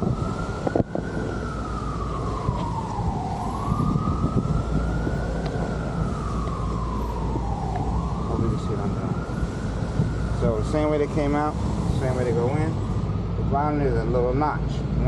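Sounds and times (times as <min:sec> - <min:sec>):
emergency siren wailing: 0:00.0 - 0:14.9.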